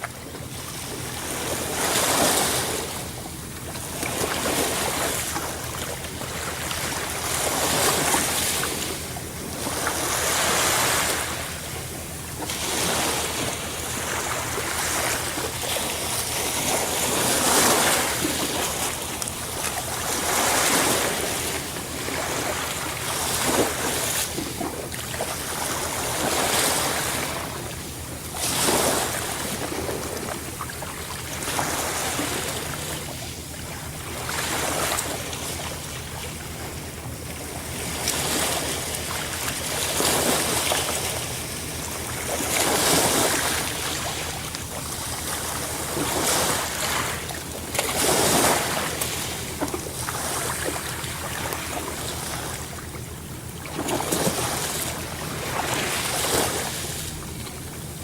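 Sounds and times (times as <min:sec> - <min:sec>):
sea waves surging and breaking: 0:00.0 - 0:58.0.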